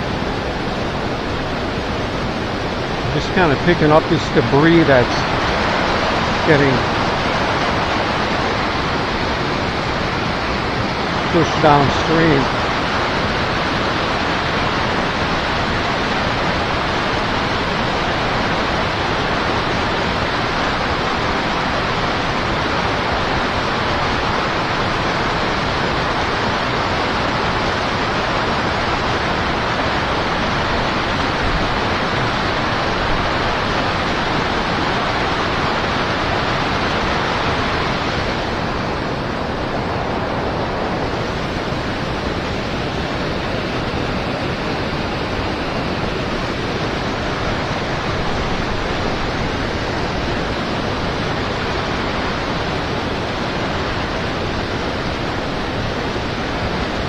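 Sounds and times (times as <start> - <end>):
white water rushing: 0.0 - 57.0.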